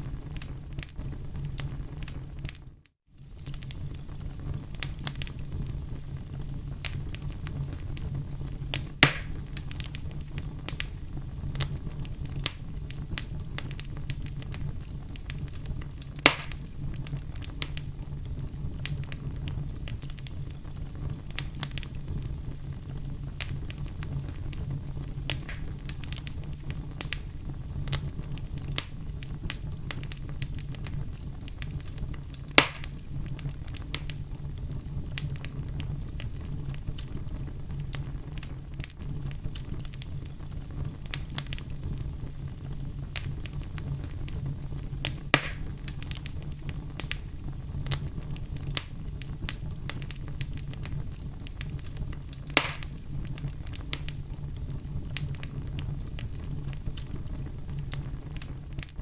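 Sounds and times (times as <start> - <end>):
fire crackling: 0.0 - 59.0
fire popping: 0.0 - 59.0
fire rumbling: 0.0 - 59.0.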